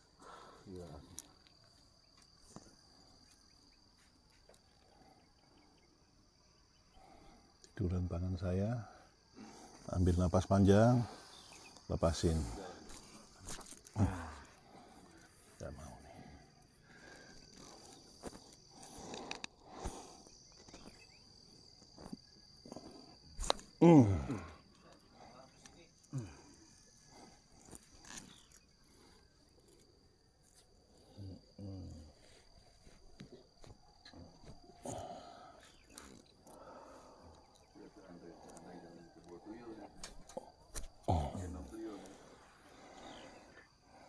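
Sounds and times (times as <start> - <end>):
crickets droning: 0.0 - 44.0
insects chirring: 0.0 - 44.0.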